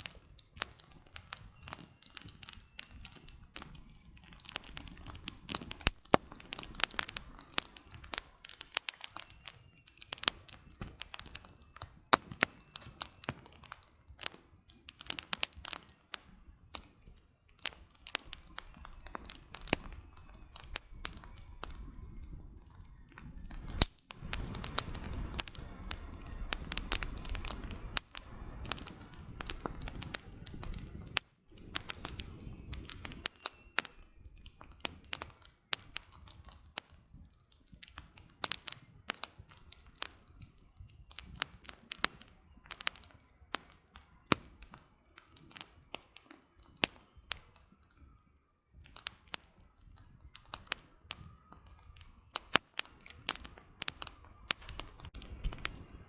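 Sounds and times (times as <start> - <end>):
flame hissing: 0.0 - 47.6, 48.8 - 56.0
campfire snaps and pops: 0.0 - 56.0.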